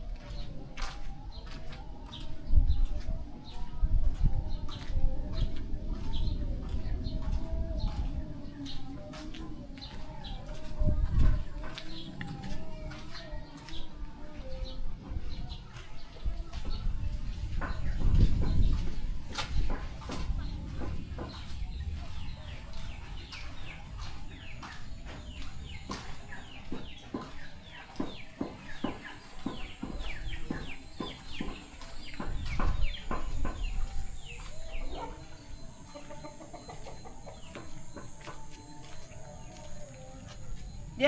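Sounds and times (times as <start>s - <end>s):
chickens peeping and clucking: 0.2s - 41.0s.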